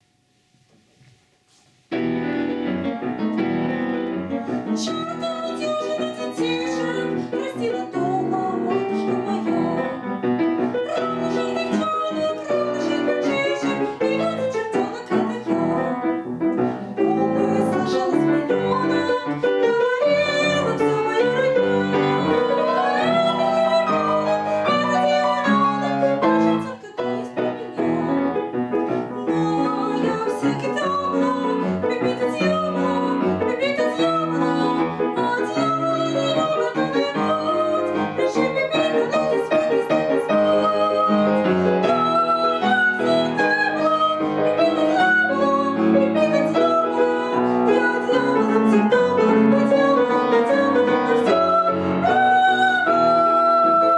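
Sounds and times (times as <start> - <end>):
piano accompaniment: 1.9 - 53.9.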